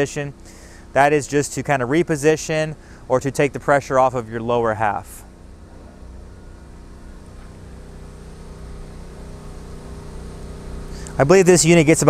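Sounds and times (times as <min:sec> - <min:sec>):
electric motor hum: 0:00.0 - 0:12.0.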